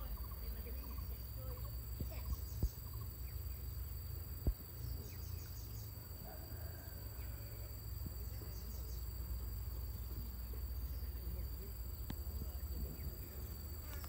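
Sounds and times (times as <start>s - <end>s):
insects droning: 0.0s - 14.0s
rapid insect chirps: 0.0s - 14.0s.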